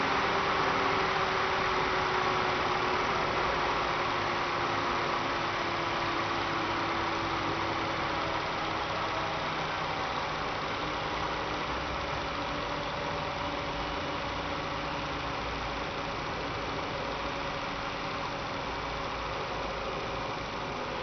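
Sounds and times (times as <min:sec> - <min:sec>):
electric fan whirring and humming: 0:00.0 - 0:21.0.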